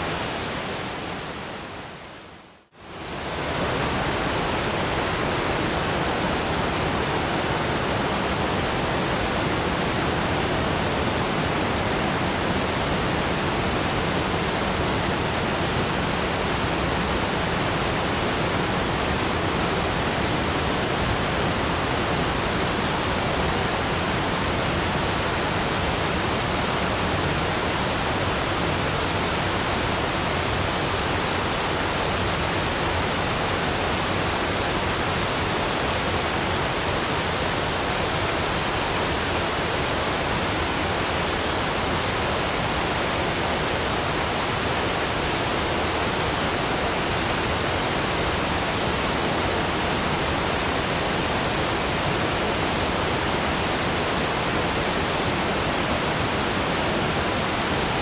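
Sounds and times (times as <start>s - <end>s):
waterfall rushing: 2.9s - 58.0s.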